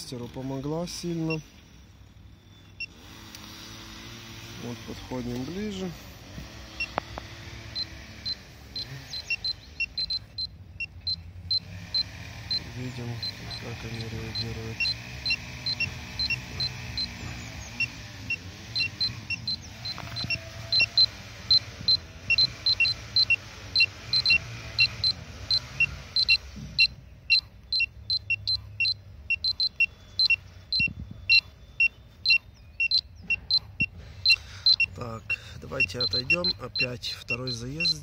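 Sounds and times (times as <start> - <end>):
radiation pager beeping: 2.4 - 3.0, 6.8 - 7.0, 7.7 - 38.0.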